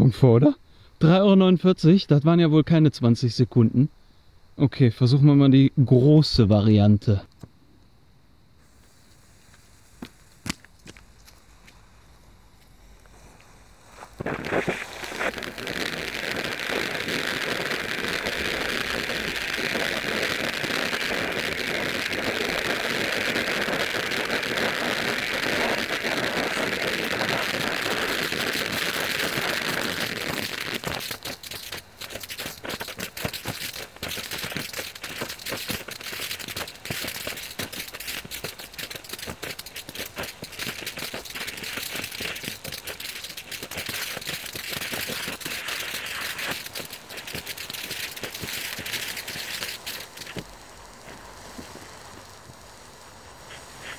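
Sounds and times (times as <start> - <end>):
firework fountain hissing and crackling: 8.4 - 53.9.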